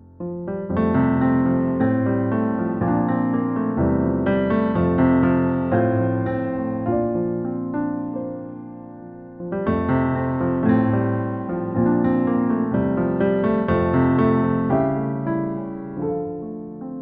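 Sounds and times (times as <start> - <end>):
piano playing sustained chords: 0.0 - 17.0.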